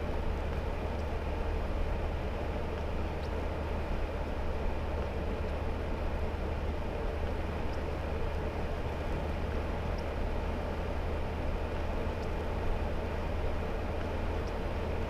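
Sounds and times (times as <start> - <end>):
engine and drivetrain hum: 0.0 - 15.0
road noise on wet road: 0.0 - 15.0.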